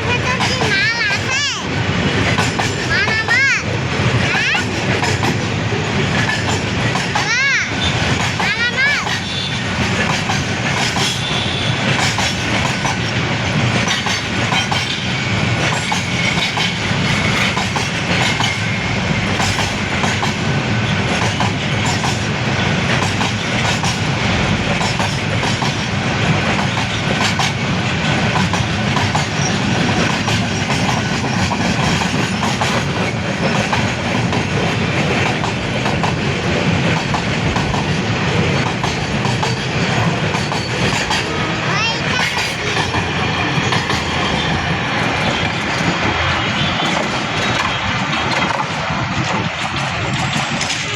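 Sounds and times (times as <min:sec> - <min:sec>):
train wheels rumbling: 0:00.0 - 0:50.9
wheels clattering over rail joints: 0:02.0 - 0:50.9.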